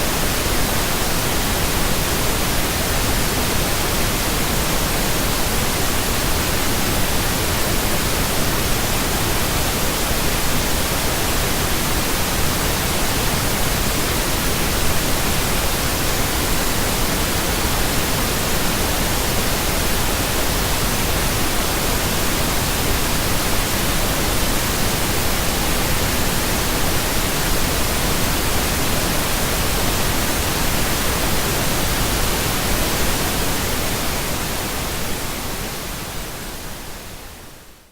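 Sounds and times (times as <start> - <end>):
pink noise hiss: 0.0 - 37.9.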